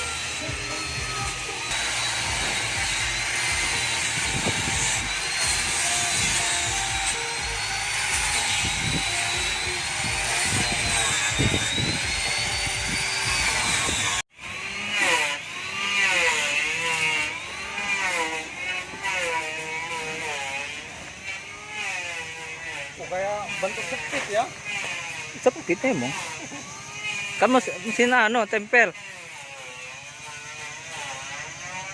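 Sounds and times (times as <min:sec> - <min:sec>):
power tool whining on wood: 0:00.0 - 0:31.9.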